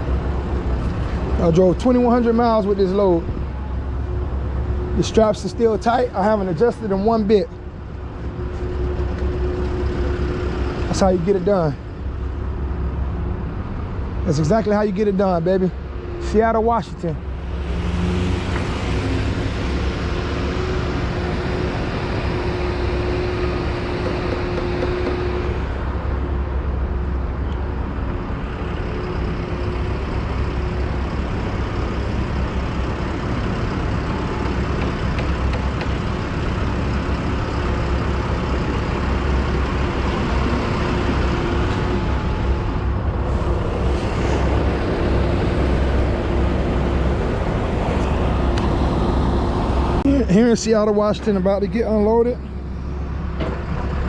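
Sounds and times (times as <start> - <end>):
heavy vehicle engine idling: 0.0 - 54.0.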